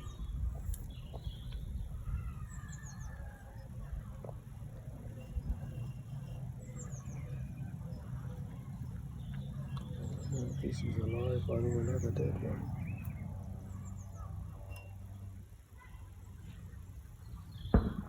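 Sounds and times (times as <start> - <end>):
low steady rumble: 0.0 - 18.0
small birds chirping: 0.0 - 18.0.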